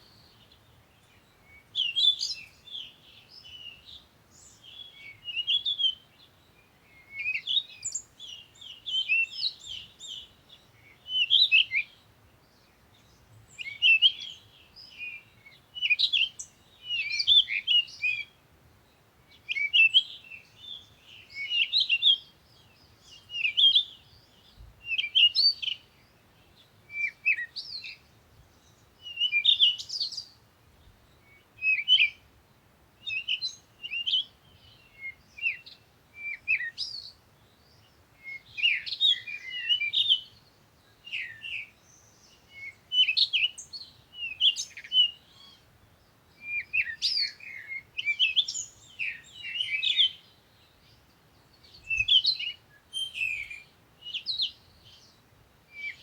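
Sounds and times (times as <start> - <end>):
birds chirping and twittering: 0.0 - 32.3, 33.0 - 56.0.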